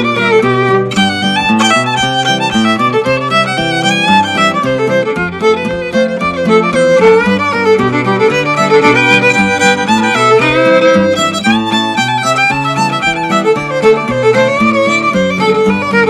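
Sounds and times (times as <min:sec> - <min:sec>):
fiddle melody: 0:00.0 - 0:16.0
strummed acoustic guitar chords: 0:00.0 - 0:16.0.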